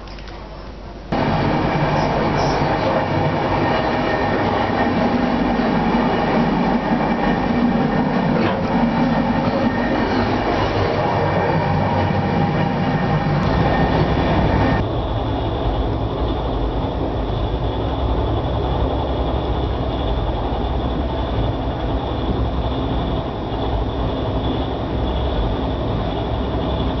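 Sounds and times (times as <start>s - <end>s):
train wheels rumbling: 1.1s - 27.0s.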